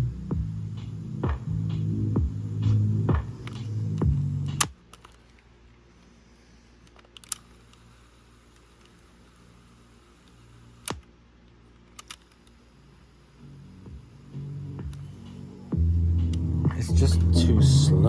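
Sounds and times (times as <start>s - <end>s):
faint low cassette hum: 0.0s - 18.0s.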